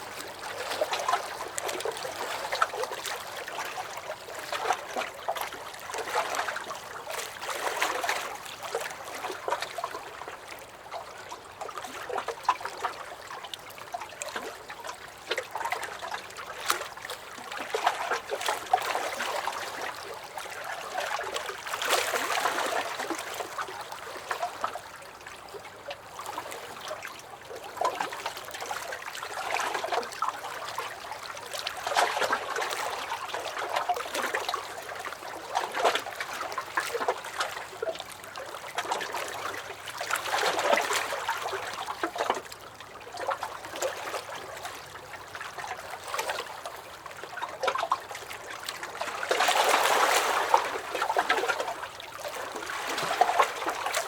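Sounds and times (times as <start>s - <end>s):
lake waves lapping against a dock: 0.0s - 54.0s.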